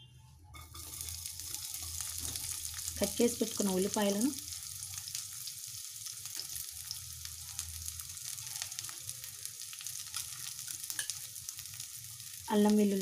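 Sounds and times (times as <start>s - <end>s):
onions sizzling in hot oil: 0.6s - 13.0s.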